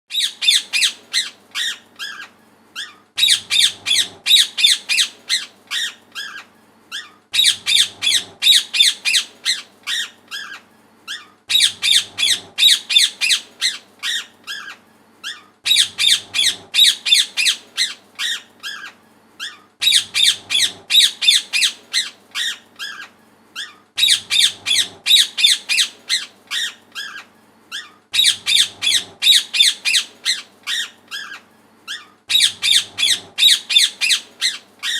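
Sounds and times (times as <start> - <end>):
parrot squawking: 0.1 - 34.9.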